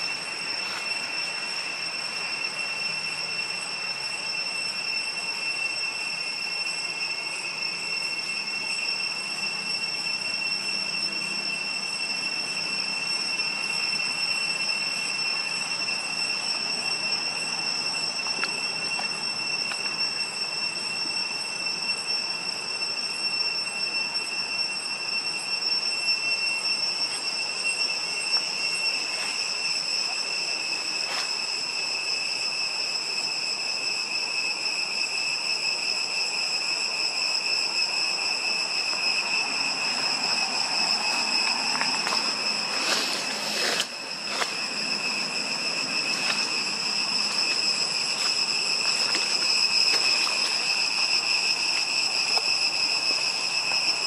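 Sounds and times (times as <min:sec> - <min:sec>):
insects droning high: 0:00.0 - 0:54.0.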